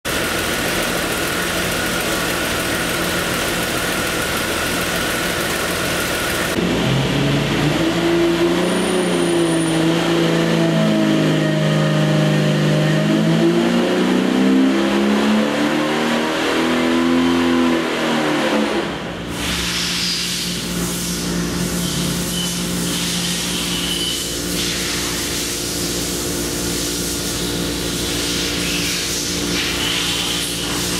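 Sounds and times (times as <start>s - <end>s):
engine running on a dyno: 0.0s - 30.9s.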